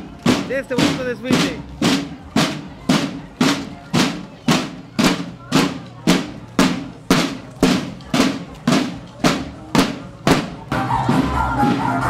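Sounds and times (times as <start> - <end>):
marching snare drums: 0.0 - 12.0.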